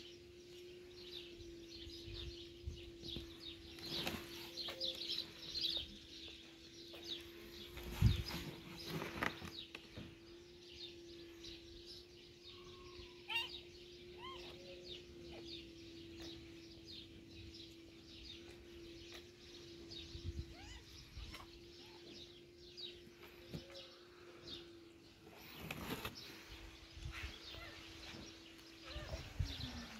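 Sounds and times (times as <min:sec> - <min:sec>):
small birds chirping: 0:00.0 - 0:29.9
steady low hum: 0:00.0 - 0:29.9.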